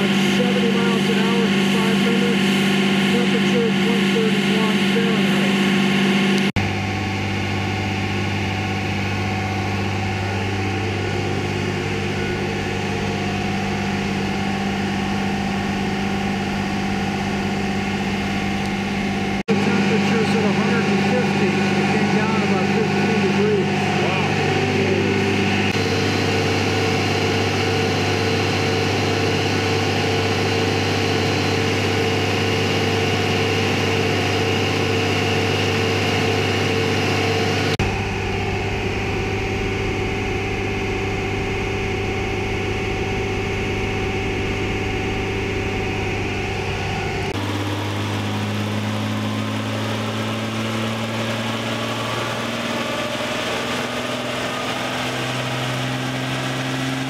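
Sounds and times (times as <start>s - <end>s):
engine droning on dyno: 0.0s - 57.0s.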